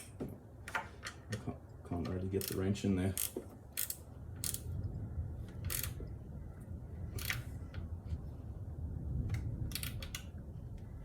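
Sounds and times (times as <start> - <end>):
low rumble of handling noise: 0.0 - 11.0.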